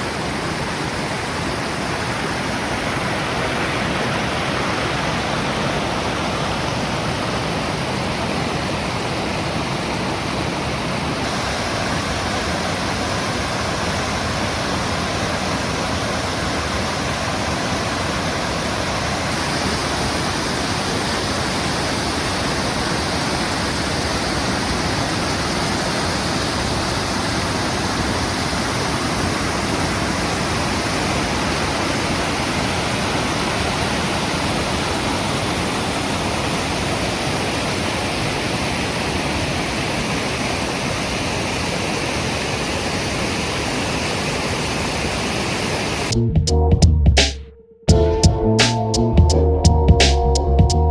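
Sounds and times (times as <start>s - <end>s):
waterfall rushing: 0.0s - 46.2s.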